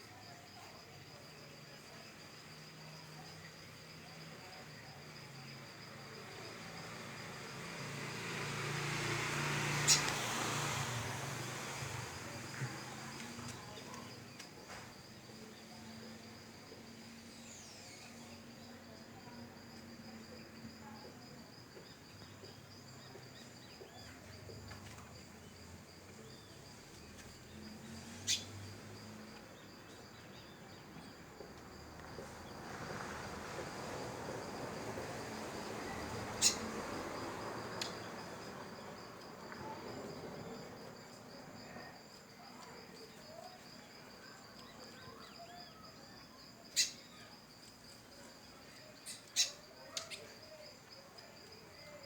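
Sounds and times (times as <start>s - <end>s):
insect trill: 0.0s - 52.0s
distant traffic: 2.1s - 52.0s.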